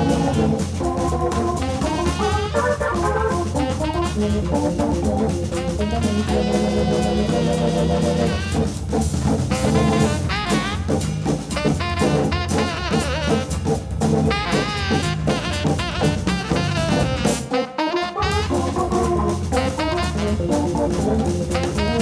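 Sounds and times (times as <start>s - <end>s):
tenor saxophone melody: 0.0s - 8.9s, 9.5s - 22.0s
drum kit beat: 0.0s - 22.0s
hammond organ: 0.0s - 22.0s.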